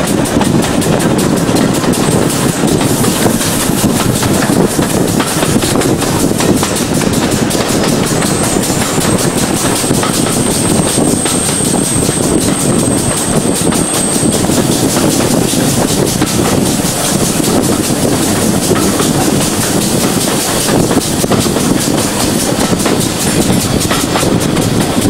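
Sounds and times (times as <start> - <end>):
steam train running: 0.0 - 25.0.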